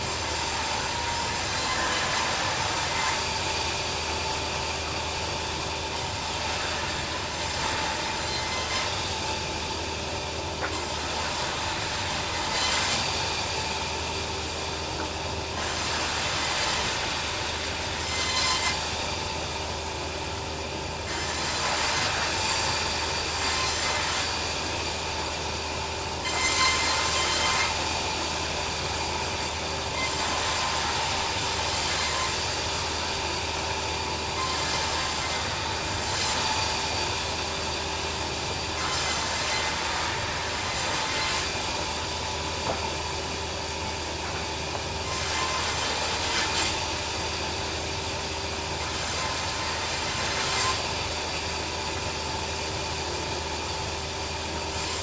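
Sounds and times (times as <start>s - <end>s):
bandsaw cutting log: 0.0s - 19.8s, 21.0s - 52.7s, 53.6s - 55.0s.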